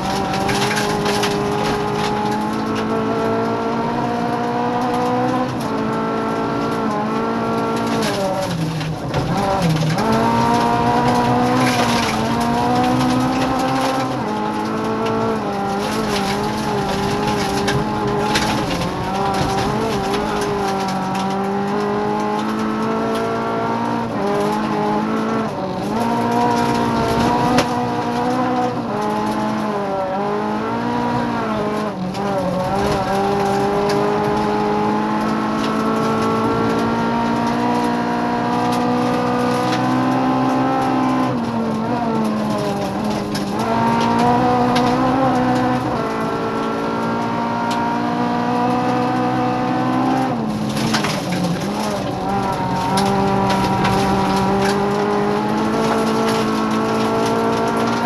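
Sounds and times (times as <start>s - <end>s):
car body knocks and rattles: 0.0s - 58.0s
rally car engine revving: 0.0s - 58.0s.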